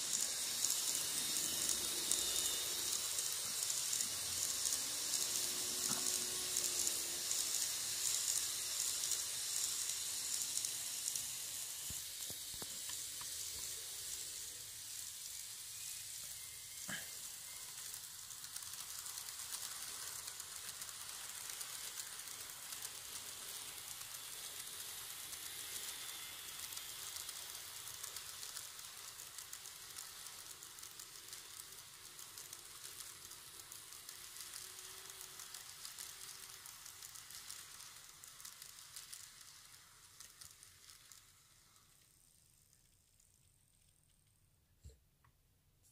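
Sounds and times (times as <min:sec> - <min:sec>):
model train running on track: 0:00.0 - 0:44.2.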